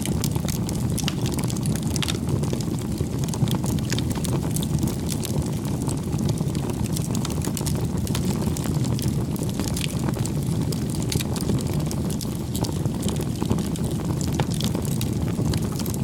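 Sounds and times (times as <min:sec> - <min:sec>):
flame rushing: 0:00.0 - 0:16.0
wood crackling and popping: 0:00.0 - 0:16.0.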